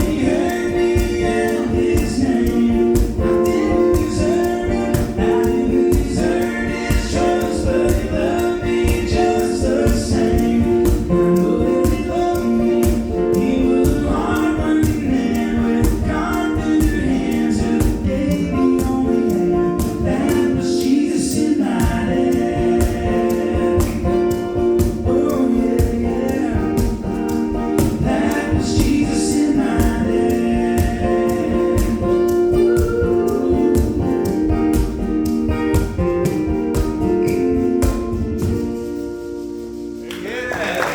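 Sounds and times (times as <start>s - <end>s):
group singing gospel: 0.0s - 39.6s
band with steady beat: 0.0s - 40.7s.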